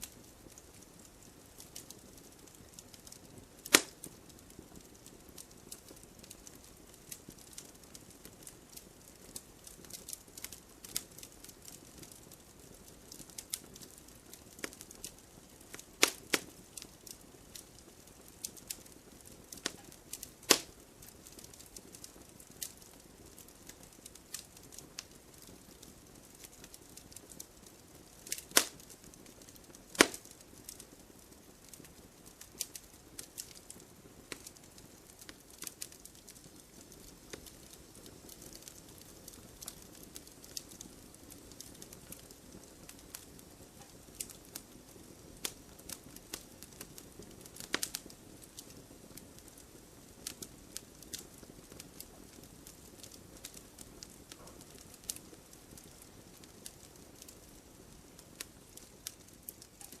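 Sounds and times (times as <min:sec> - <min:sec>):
wood fire crackling and popping: 0:00.0 - 1:00.0.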